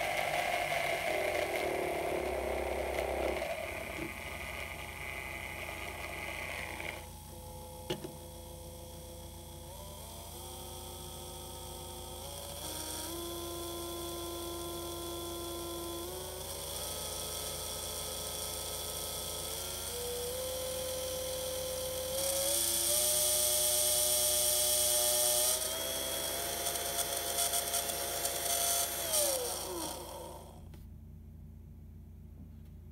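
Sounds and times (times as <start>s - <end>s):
electric motor whine: 0.0s - 30.7s.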